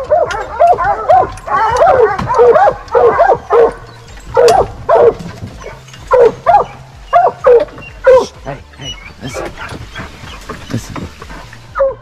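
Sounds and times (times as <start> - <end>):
hounds barking and yelping: 0.0 - 12.0.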